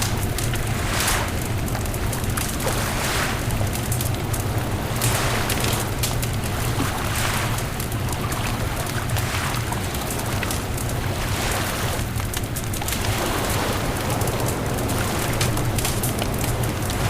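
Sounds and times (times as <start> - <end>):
bonfire crackling and popping: 0.0 - 17.0
wind and surf rumble: 0.0 - 17.0.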